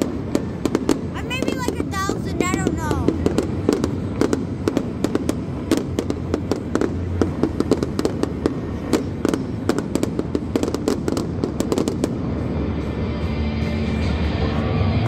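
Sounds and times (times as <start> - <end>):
fireworks cracking and popping: 0.0 - 12.8
continuous fireworks rumble: 0.0 - 15.0.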